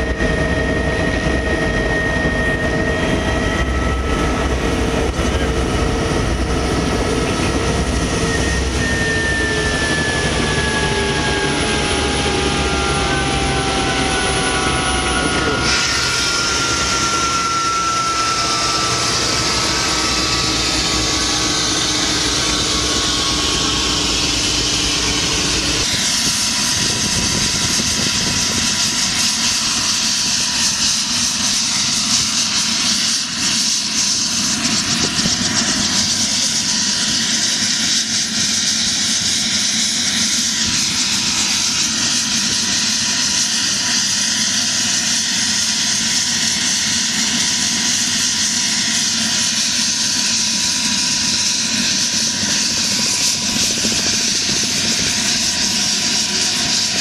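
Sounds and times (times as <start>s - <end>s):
helicopter engine and rotor: 0.0s - 57.0s
high engine whine: 0.0s - 57.0s.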